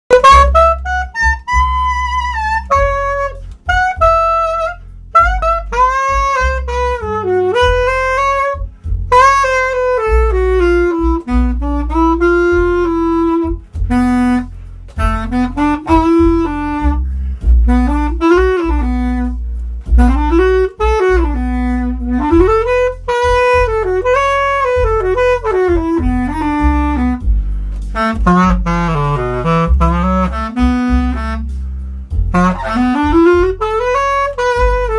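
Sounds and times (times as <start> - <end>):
bass clarinet blues line: 0.1 - 34.9.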